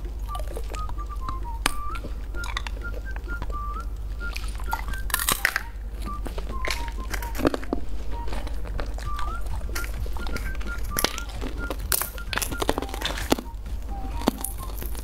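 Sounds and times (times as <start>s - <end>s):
hard candy eating clicks: 0.2s - 15.0s
beep-like background tune: 0.3s - 15.0s.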